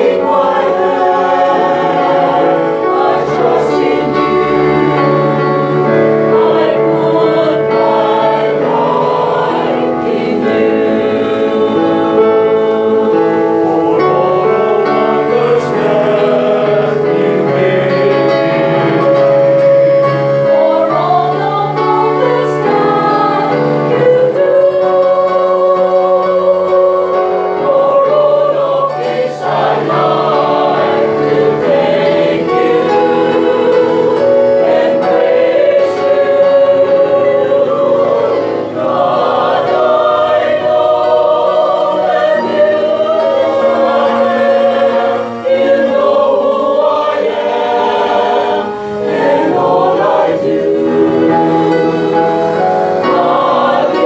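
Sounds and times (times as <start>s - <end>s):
choir singing: 0.0s - 54.0s
electronic keyboard: 0.0s - 54.0s.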